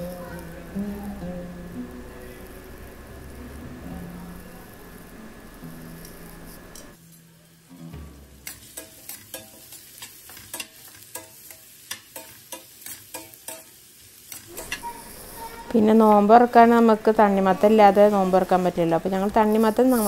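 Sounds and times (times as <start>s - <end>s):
onions sizzling in hot oil: 0.0s - 7.7s, 8.3s - 20.0s.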